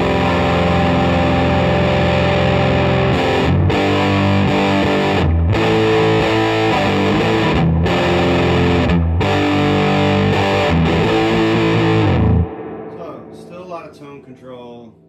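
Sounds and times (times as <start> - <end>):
fuzzed electric guitar riff: 0.0 - 15.0.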